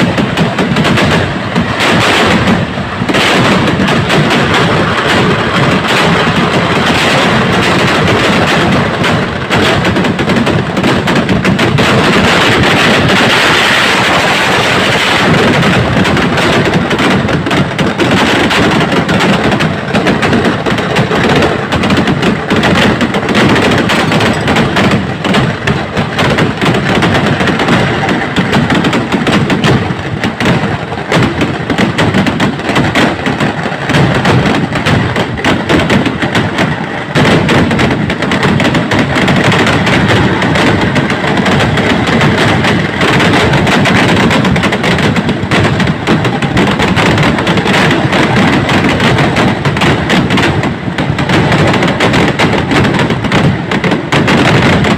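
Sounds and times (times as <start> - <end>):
firework bangs and crackles: 0.0 - 54.9.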